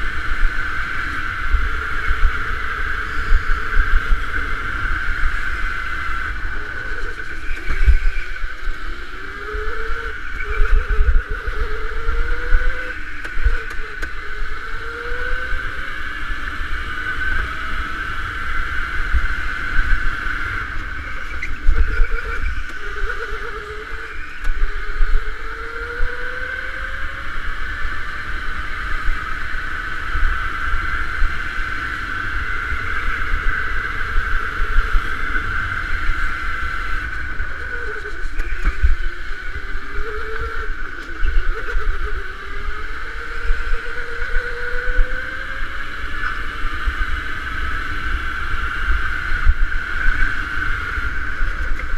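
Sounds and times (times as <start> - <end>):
go-kart motor whining: 0.0 - 51.9.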